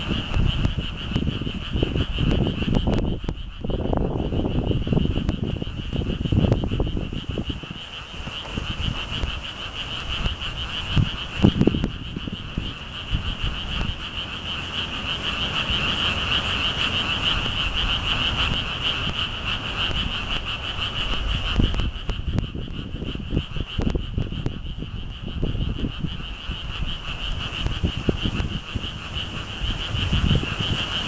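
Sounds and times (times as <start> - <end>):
frogs calling in a trill: 0.0 - 31.0
wind buffeting microphone: 0.0 - 31.0.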